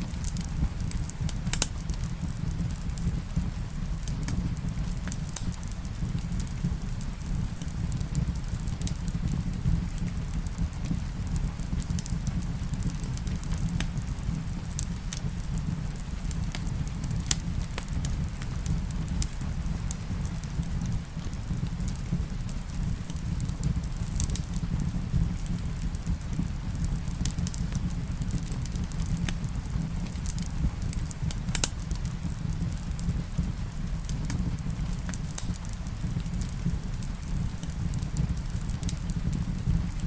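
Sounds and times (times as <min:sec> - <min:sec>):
rain hissing: 0:00.0 - 0:39.9
wood fire crackling and popping: 0:00.0 - 0:40.0.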